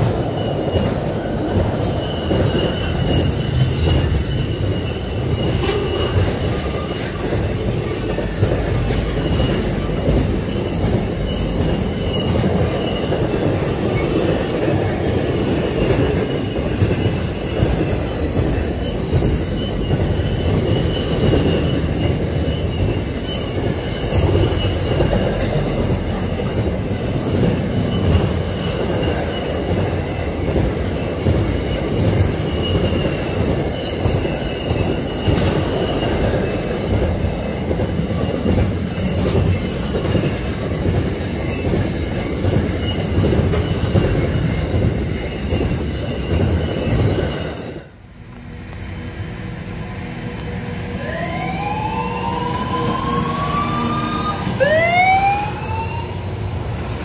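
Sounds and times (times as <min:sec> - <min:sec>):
train wheels rumbling on rail: 0:00.0 - 0:57.0
wavering wheel squeal: 0:00.0 - 0:57.0.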